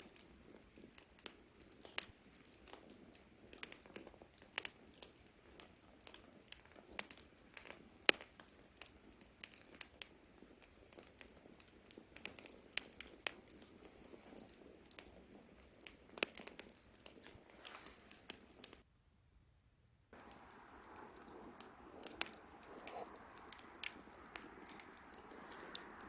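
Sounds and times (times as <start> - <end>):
campfire crackling: 0.0 - 18.8, 20.1 - 26.0.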